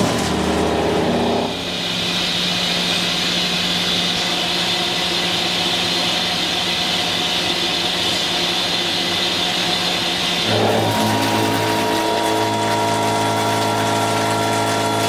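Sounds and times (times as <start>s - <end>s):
face mill cutting steel hum: 0.0s - 15.0s
machining center running: 0.0s - 15.0s.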